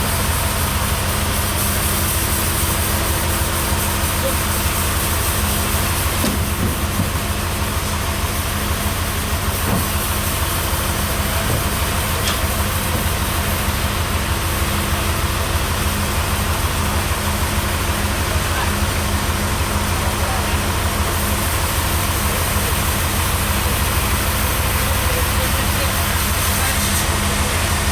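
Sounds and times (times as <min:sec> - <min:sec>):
heavy engine idling: 0:00.0 - 0:27.9.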